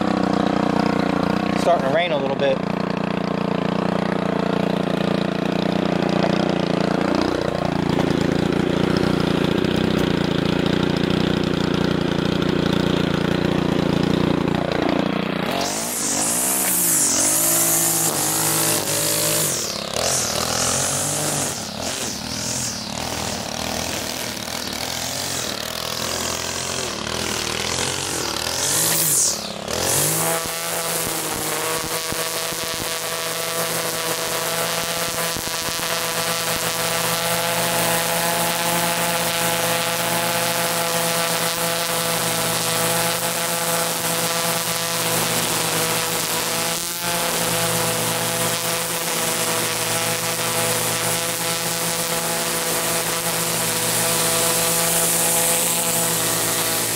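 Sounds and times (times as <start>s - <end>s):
cutting line whine: 0.0s - 56.9s
small engine running: 0.0s - 56.9s
string trimmer engine revving: 0.0s - 56.9s.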